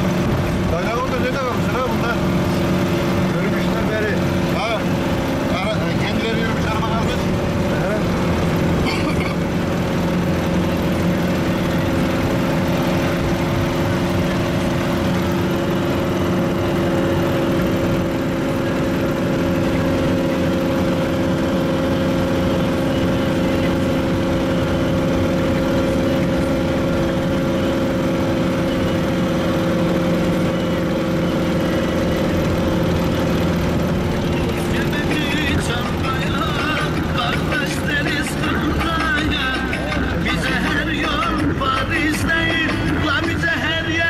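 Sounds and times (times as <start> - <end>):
tyre and road rumble: 0.0 - 44.0
vehicle engine running steadily: 0.0 - 44.0.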